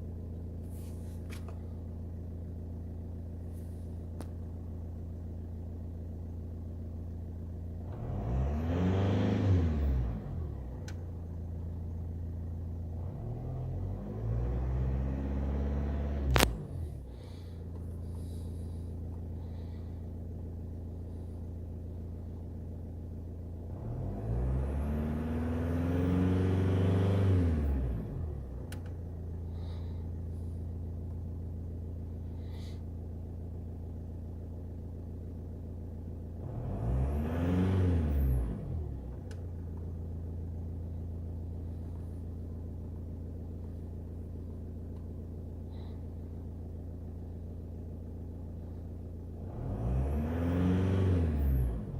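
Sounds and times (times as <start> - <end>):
diesel engine idling and revving: 0.0 - 51.9.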